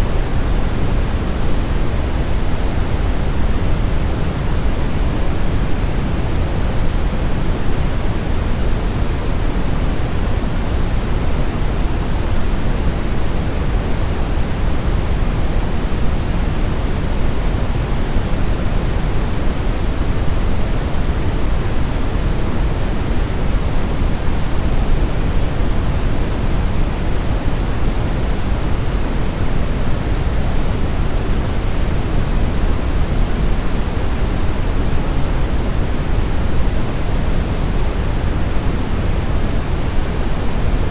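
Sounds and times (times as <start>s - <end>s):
brown noise hiss: 0.0s - 40.9s.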